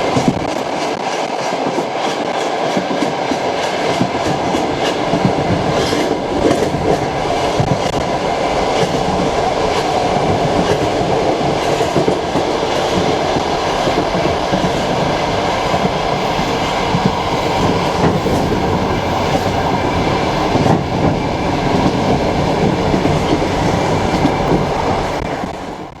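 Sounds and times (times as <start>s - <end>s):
train carriage rumbling: 0.0s - 26.0s.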